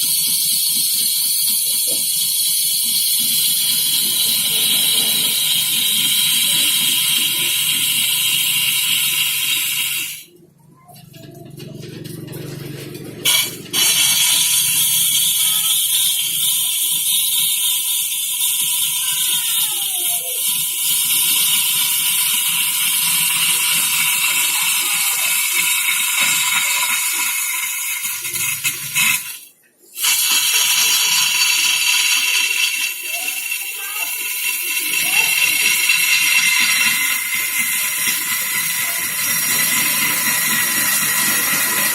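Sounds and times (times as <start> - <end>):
hiss of lathe shavings: 0.0 - 10.3, 13.3 - 29.4, 30.0 - 41.9
lathe whine: 0.0 - 10.3, 12.1 - 19.1, 20.6 - 29.4, 30.0 - 41.9.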